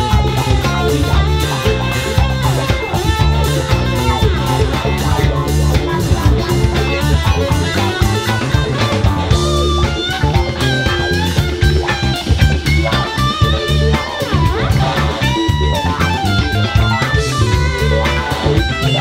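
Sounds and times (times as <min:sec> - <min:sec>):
held lead guitar notes: 0:00.0 - 0:19.0
rock band playing: 0:00.0 - 0:19.0.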